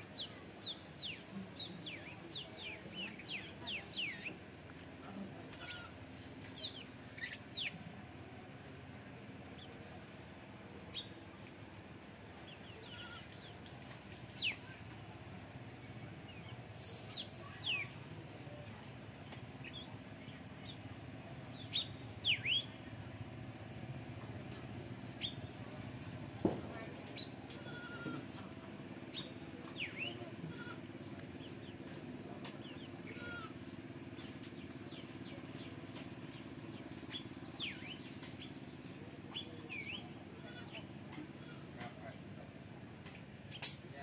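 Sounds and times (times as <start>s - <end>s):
birds chirping: 0.0s - 23.3s, 24.6s - 44.0s.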